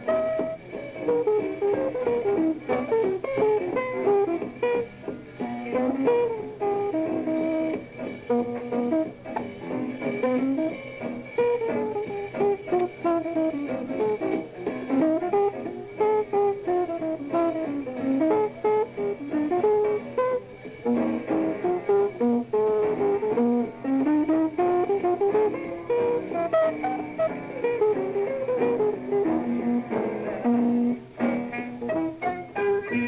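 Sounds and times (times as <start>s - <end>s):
jazz guitar melody: 0.0s - 33.0s.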